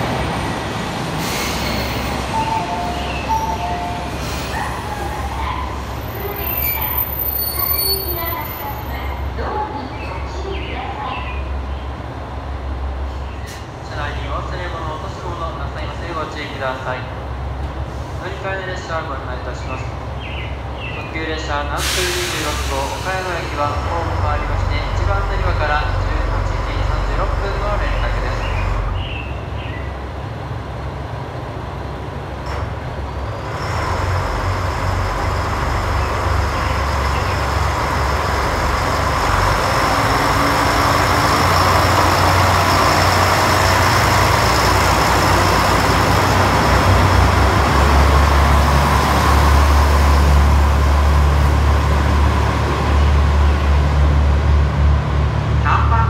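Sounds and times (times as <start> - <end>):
diesel railcar engine rumble: 0.0 - 56.0.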